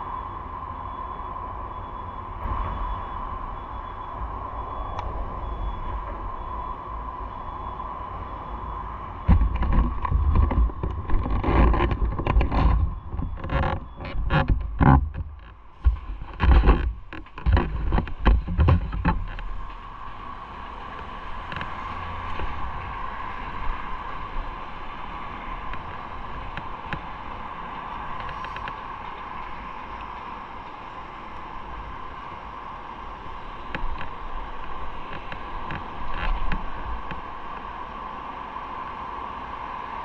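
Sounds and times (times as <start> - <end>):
road and wind noise: 0.0 - 40.0.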